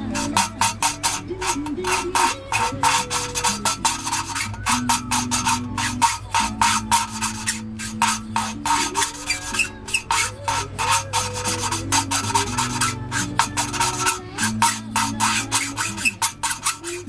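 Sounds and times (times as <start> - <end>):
valve scratching against seat: 0.0 - 17.0.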